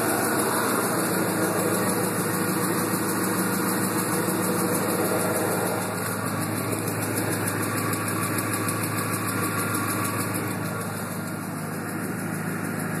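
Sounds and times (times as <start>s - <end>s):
fast regular engine tick: 0.0s - 13.0s
truck engine idling: 0.0s - 13.0s.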